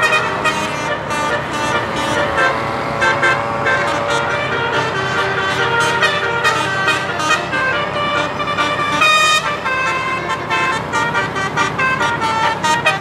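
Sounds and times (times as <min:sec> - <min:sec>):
tuned bus horns playing a tune: 0:00.0 - 0:13.0.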